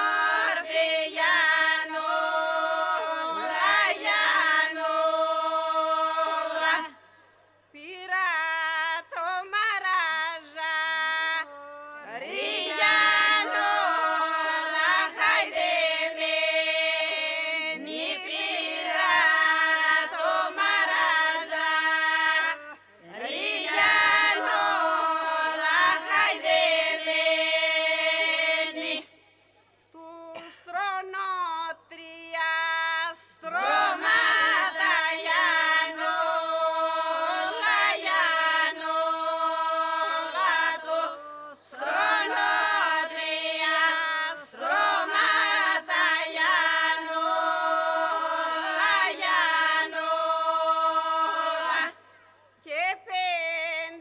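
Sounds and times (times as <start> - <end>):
women singing held drone: 0.0 - 7.0, 7.8 - 29.1, 30.0 - 52.0.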